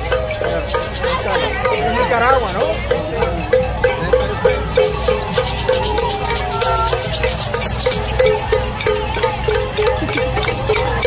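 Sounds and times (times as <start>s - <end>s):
maracas shaking: 0.0s - 11.0s.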